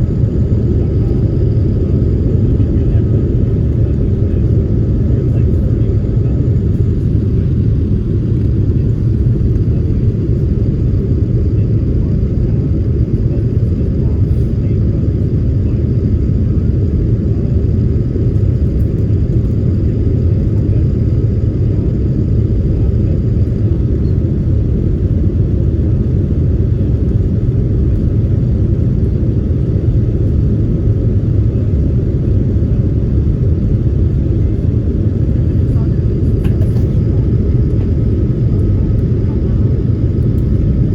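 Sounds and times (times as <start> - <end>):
jet engine and airflow rumble: 0.0 - 40.9.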